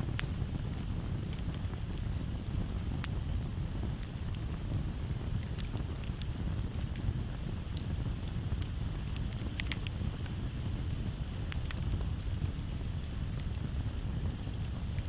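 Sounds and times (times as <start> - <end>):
breeze rumble: 0.0 - 15.0
campfire crackling: 0.0 - 15.0
crickets trilling: 0.0 - 15.0.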